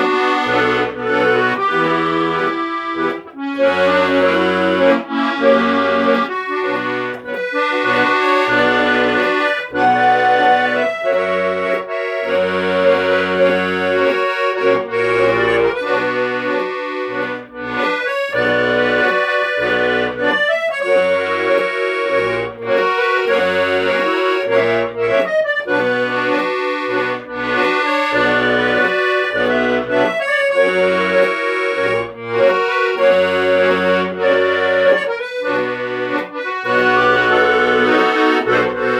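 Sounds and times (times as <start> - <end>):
accordion music: 0.0 - 38.9.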